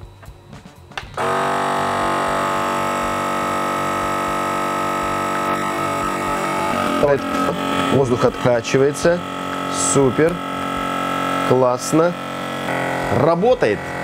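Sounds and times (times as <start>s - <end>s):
vacuum pump humming: 1.0s - 14.0s.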